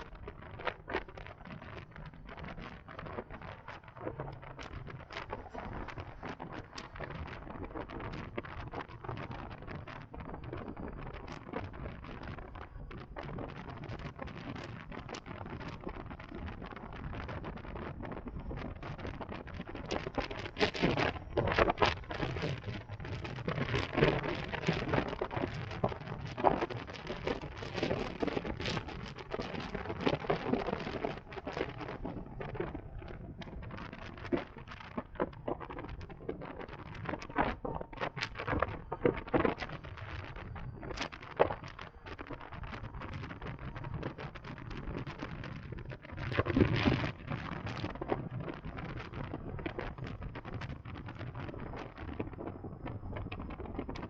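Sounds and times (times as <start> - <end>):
crackling and rustling microphone noise: 0.0 - 54.0.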